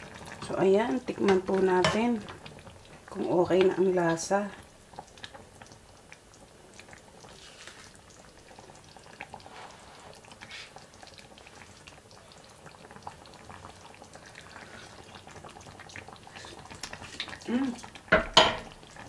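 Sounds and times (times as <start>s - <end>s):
stew bubbling with small pops: 0.0s - 19.0s.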